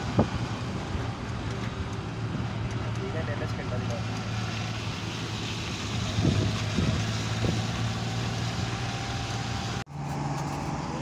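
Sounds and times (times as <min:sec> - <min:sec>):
car engine and tyres humming: 0:00.0 - 0:11.0.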